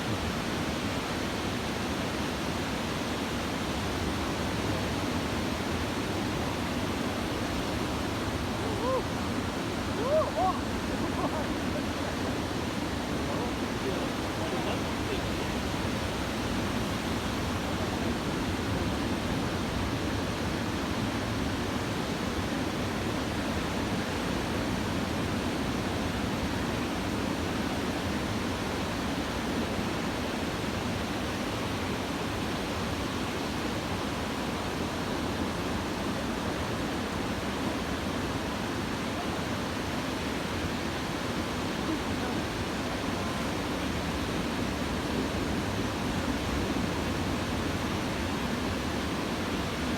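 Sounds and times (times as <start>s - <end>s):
surf roaring on a beach: 0.0s - 49.9s.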